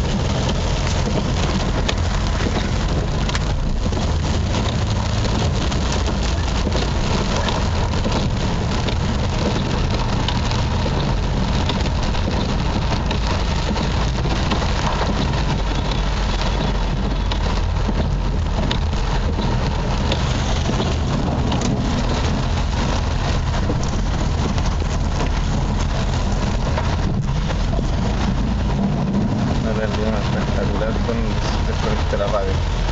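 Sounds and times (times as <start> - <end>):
steady rain hissing: 0.0 - 32.9.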